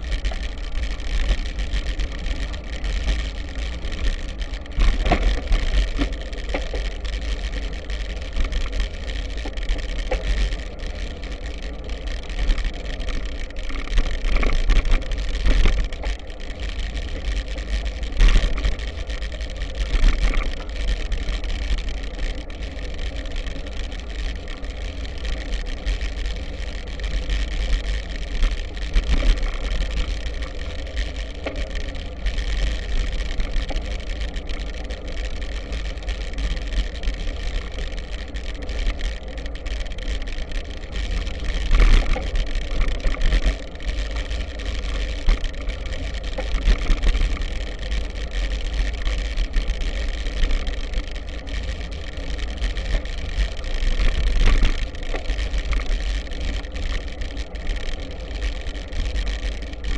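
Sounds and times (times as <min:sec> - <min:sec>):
bike jolting over bumps: 0:00.0 - 0:59.9
tyres rolling on dirt road: 0:00.0 - 0:59.9
wind rumbling on microphone: 0:00.0 - 0:59.9.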